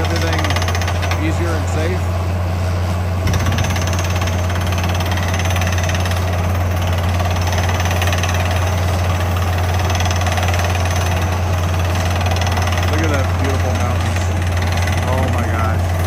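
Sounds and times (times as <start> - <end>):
air hammer pounding rock: 0.0 - 1.6, 3.2 - 16.0
low engine and compressor drone: 0.0 - 16.0.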